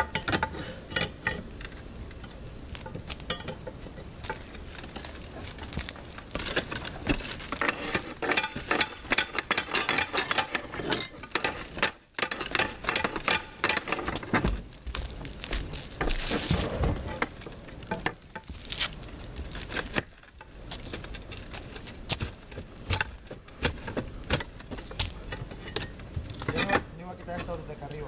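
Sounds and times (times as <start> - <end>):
roof tiles clinking and scraping: 2.8 - 27.6.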